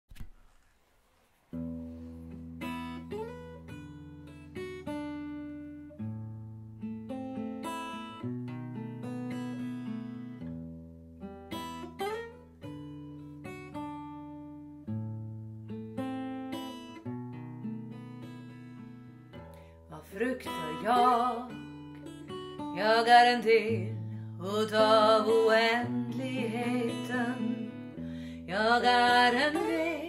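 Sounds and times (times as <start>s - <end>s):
acoustic guitar playing: 1.4s - 30.0s.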